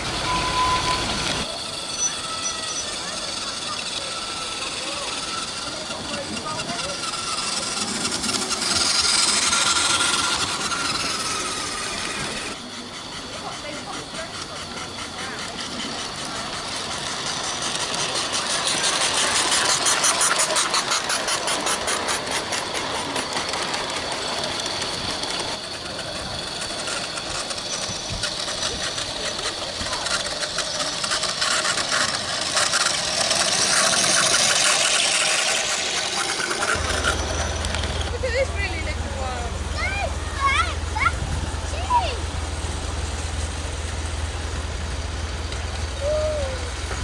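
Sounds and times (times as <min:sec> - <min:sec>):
small steam locomotive chuffing: 0:00.0 - 0:47.0.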